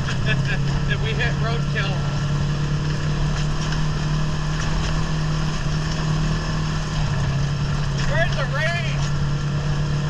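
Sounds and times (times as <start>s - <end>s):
atv engine droning: 0.0s - 10.0s.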